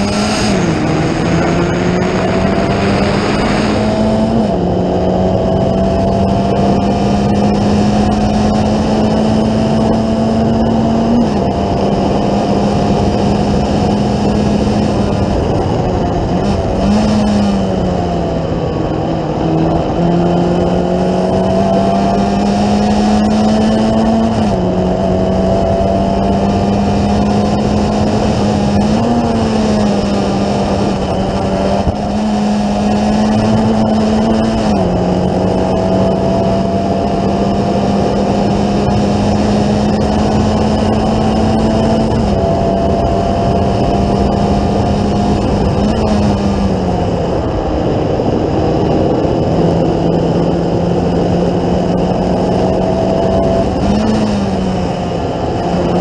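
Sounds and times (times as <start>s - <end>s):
race car engine running hard: 0.0s - 56.0s
steady rushing noise: 0.0s - 56.0s.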